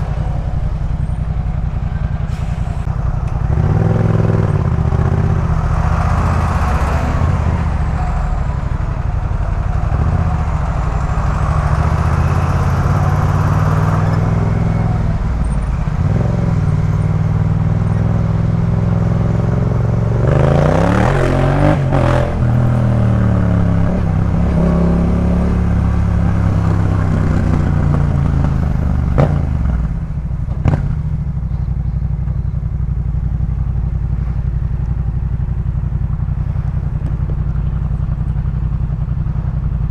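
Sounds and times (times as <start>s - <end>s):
motorcycle engine revving: 2.9s - 39.9s.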